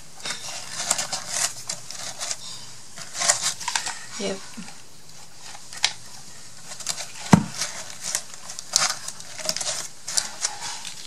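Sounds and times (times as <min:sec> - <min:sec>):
paper items clicking and rustling: 0:00.0 - 0:11.0.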